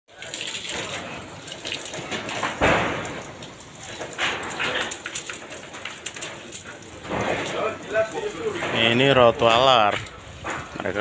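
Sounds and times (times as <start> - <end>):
garden hose spraying water: 0.1 - 11.0.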